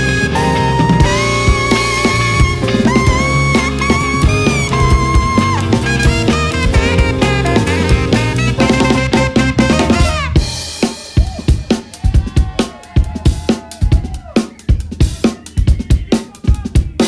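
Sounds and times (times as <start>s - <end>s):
drum kit hits: 0.0s - 17.0s
funk band playing: 0.0s - 17.0s.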